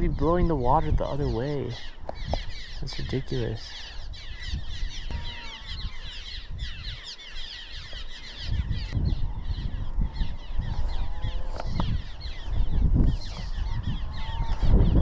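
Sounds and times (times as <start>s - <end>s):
small birds twittering: 0.0s - 15.0s
wind buffeting microphone: 0.0s - 15.0s.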